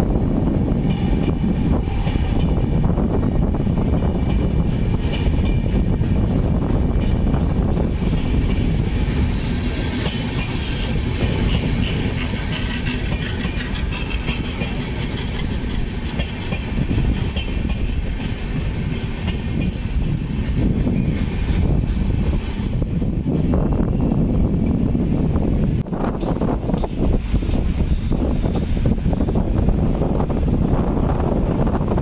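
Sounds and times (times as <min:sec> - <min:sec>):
train wheels rumbling on rail: 0:00.0 - 0:32.0
wheels clickety-clack over track: 0:00.0 - 0:32.0.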